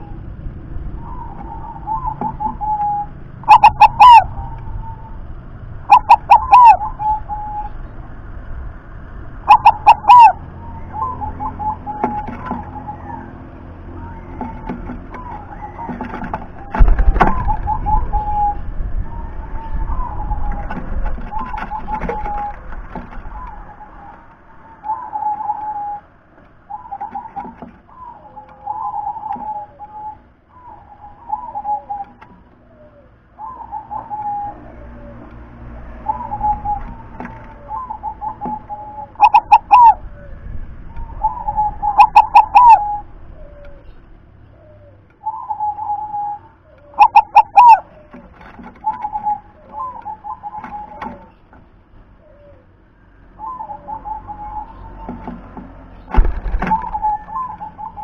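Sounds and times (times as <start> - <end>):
dove cooing: 0.0 - 8.0, 9.2 - 58.0.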